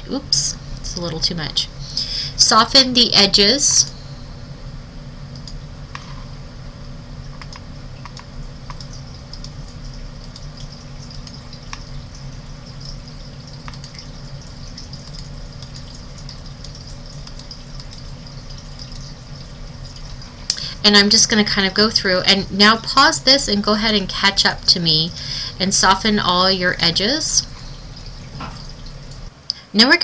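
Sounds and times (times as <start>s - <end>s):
low hum and hiss: 0.0s - 30.0s.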